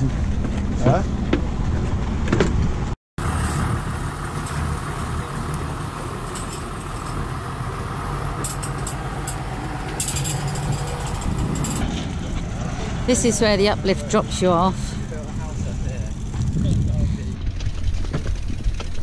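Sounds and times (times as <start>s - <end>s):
tractor diesel engine running: 2.8s - 19.0s.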